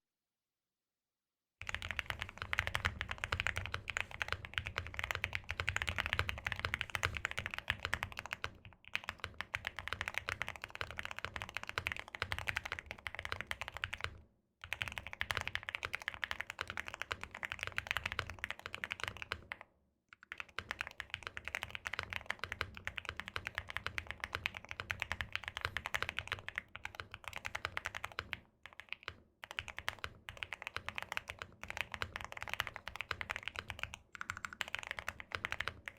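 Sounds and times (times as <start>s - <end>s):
mechanical keyboard typing: 1.6s - 19.6s, 20.2s - 35.9s.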